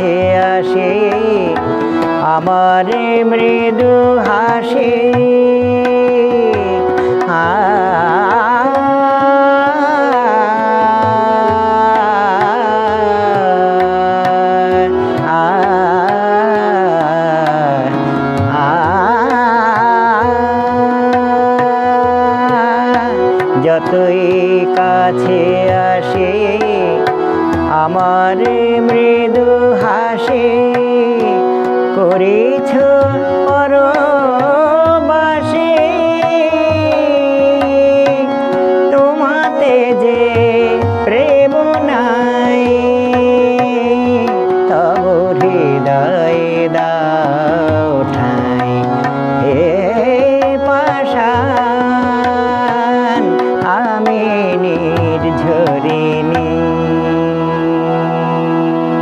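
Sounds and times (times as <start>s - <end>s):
man singing: 0.0s - 59.0s
tabla: 0.0s - 59.0s.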